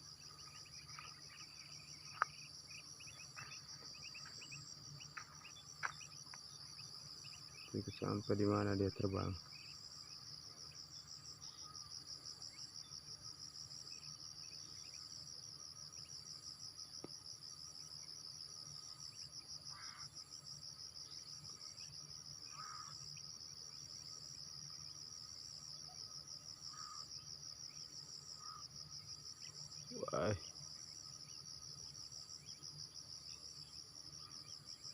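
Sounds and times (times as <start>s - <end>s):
faint insect chirps: 0.0s - 34.9s
insects trilling: 0.0s - 34.9s.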